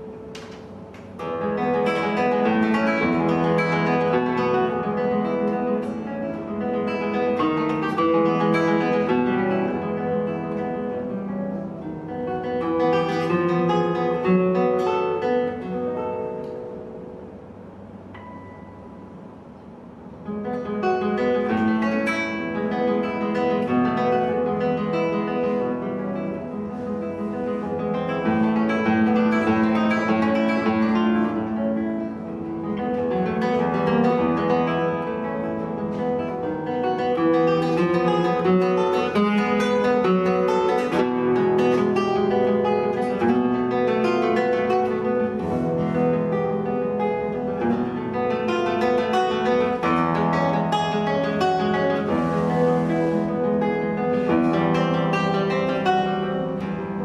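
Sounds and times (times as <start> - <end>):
solo acoustic guitar: 0.0 - 57.0.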